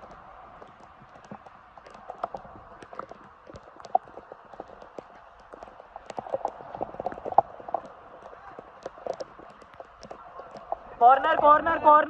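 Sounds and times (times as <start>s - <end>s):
footsteps running on wet grass: 0.0s - 11.3s.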